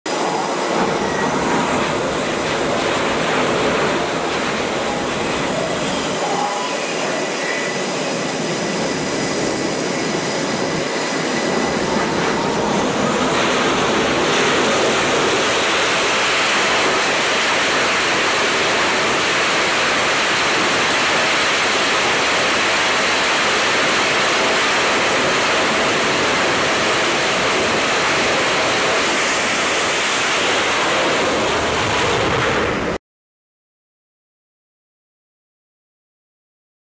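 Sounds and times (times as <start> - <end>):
jet engines running: 0.1 - 33.0.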